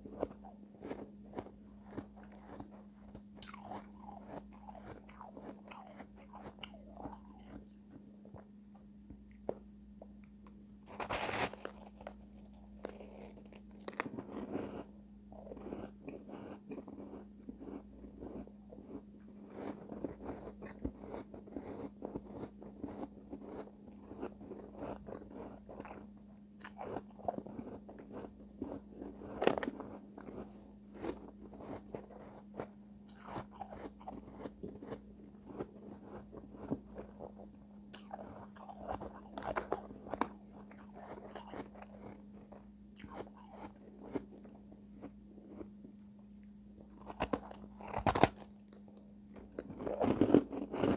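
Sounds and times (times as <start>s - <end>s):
steady low hum: 0.0s - 50.9s
chewing crunchy shave ice: 0.1s - 8.4s, 10.8s - 45.7s, 46.3s - 50.9s.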